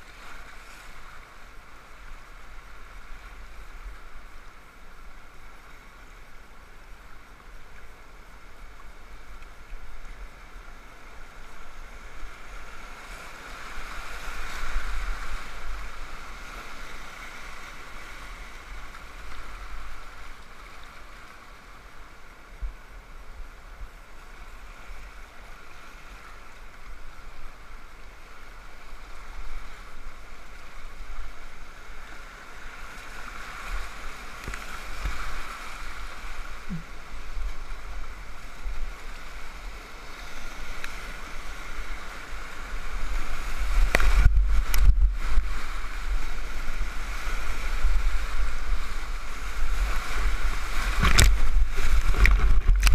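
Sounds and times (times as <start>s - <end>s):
river rapids rushing and splashing: 6.2s - 25.7s, 26.3s - 52.9s.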